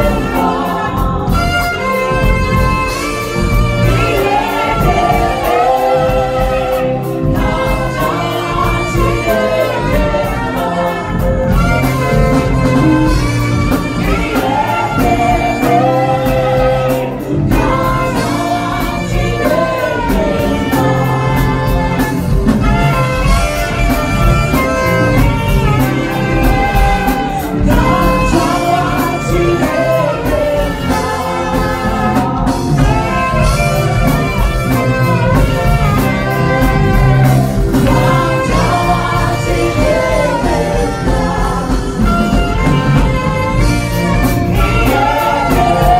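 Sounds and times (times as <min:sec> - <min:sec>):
drums and bass backing: 0:00.0 - 0:45.9
saxophones playing melody: 0:00.0 - 0:45.9.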